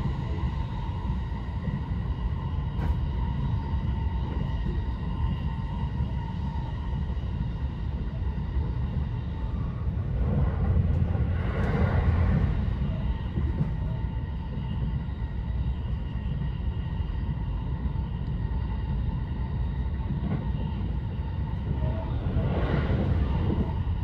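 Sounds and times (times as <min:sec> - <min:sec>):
faint whining tones: 0:00.0 - 0:24.0
train wheels rumbling on rails: 0:00.0 - 0:24.0.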